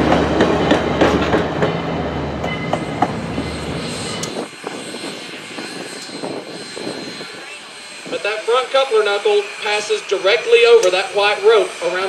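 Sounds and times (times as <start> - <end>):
train wheels clicking on rail joints: 0.0 - 1.8, 2.4 - 12.0
low steady train hum: 0.0 - 12.0.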